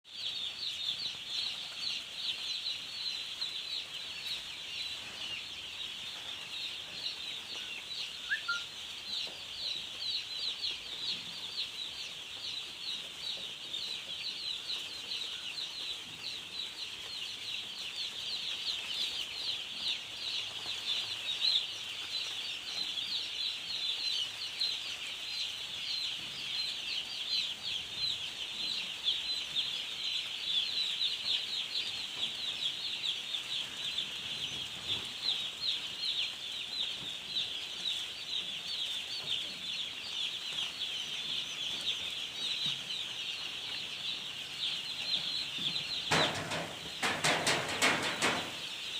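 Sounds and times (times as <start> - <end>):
chickens peeping: 0.1 - 48.9.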